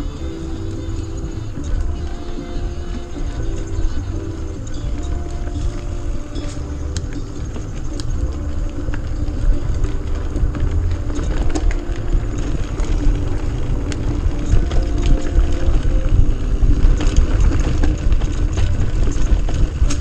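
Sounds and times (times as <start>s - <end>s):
bicycle tyre noise: 0.0s - 20.0s
bike clicks and rattles: 0.0s - 20.0s
wind rumble on microphone: 0.0s - 20.0s.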